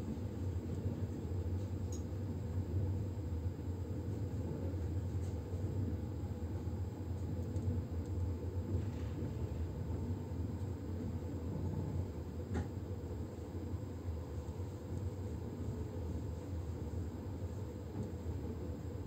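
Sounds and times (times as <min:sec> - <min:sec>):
train carriage rumbling on track: 0:00.0 - 0:19.0.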